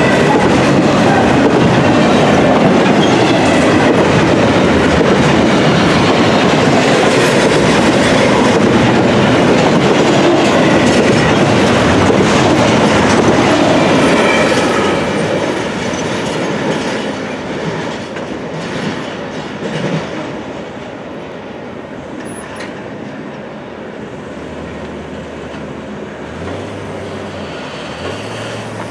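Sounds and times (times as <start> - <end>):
freight train rolling on rails: 0.0 - 28.9.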